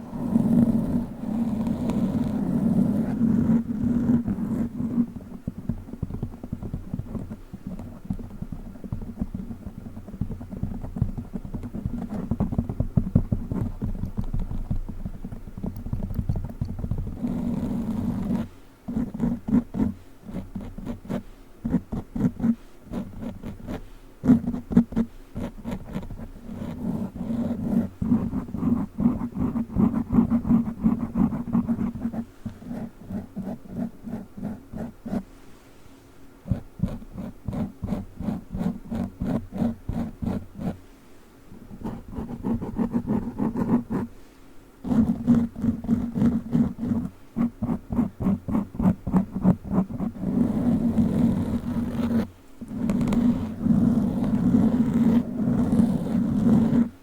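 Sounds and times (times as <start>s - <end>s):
fingertips scratching microphone cover: 0.0s - 35.4s, 36.4s - 40.8s, 41.5s - 44.2s, 44.8s - 57.0s.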